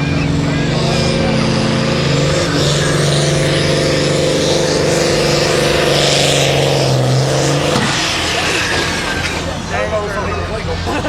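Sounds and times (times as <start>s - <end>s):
diesel tractor engine at full throttle: 0.0s - 11.0s.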